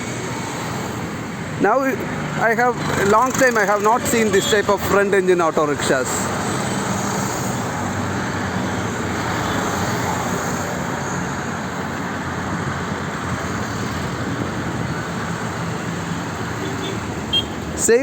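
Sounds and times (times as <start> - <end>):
road traffic rush: 0.0 - 18.0.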